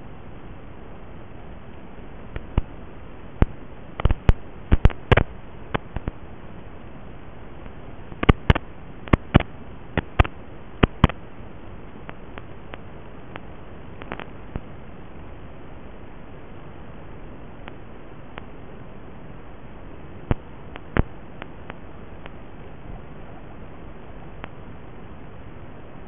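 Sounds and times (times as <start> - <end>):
radio static hiss: 0.0 - 26.0
static clicks and crackles: 0.0 - 26.0.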